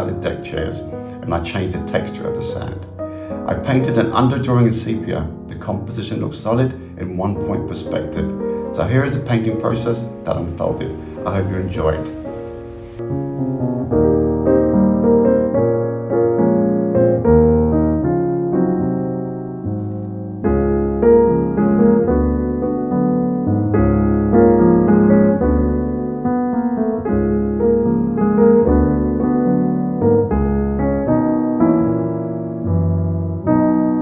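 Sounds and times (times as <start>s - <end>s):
slow piano piece: 0.0s - 34.0s.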